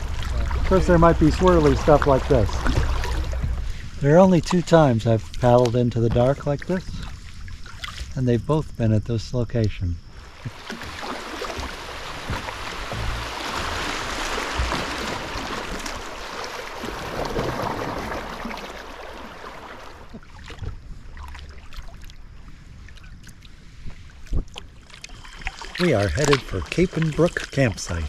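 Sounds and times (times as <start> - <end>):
paddle splashes and drips: 0.0 - 8.2, 10.2 - 28.0.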